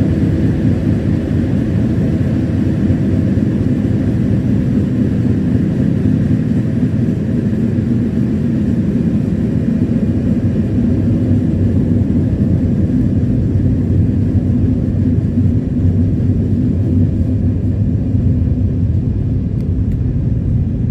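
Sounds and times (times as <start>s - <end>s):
train rumbling at speed: 0.0s - 20.9s.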